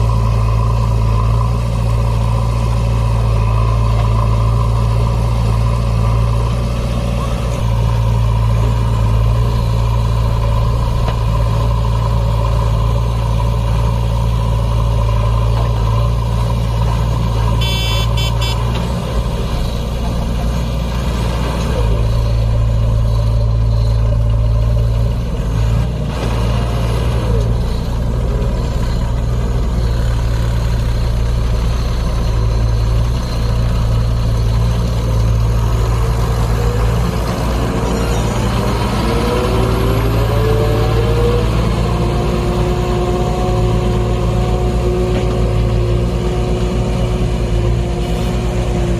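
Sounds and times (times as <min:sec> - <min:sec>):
heavy diesel engines under load: 0:00.0 - 0:48.9.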